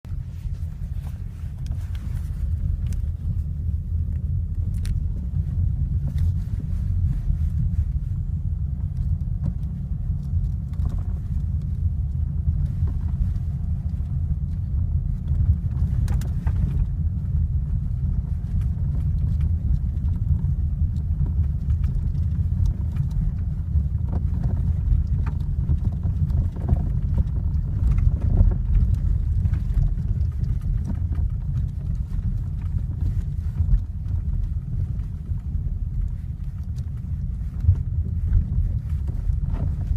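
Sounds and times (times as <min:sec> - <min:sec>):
car road and cabin rumble: 0:00.0 - 0:39.9.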